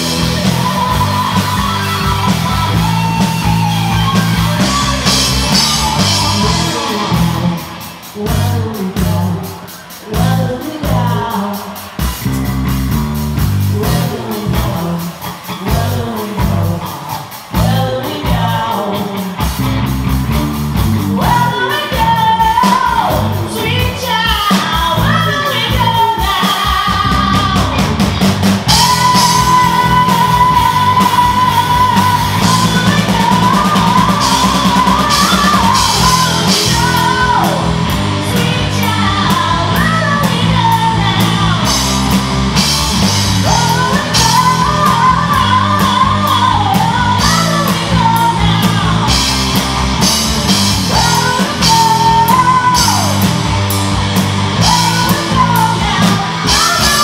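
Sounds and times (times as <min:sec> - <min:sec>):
lead vocalist singing: 0:00.0 - 0:12.2, 0:13.6 - 0:19.6, 0:21.0 - 0:49.4, 0:50.0 - 0:53.4, 0:54.5 - 0:57.0
bass guitar: 0:00.0 - 0:57.0
drum kit: 0:00.0 - 0:57.0
electric guitar: 0:00.0 - 0:57.0.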